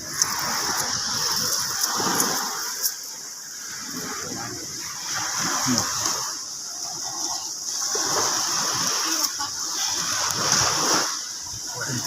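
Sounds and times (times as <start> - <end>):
shallow water splashing: 0.0 - 12.0.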